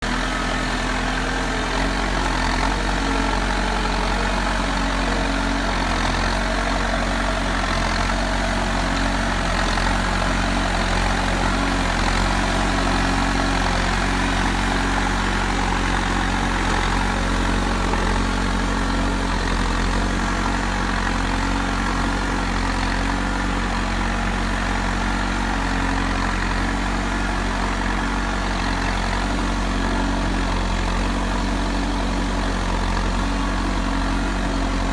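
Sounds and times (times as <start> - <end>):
heavy diesel engine idling: 0.0 - 34.9.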